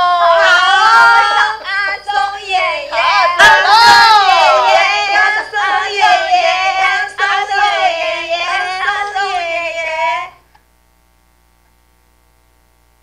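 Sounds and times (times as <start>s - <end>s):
people singing a melody: 0.0s - 10.5s.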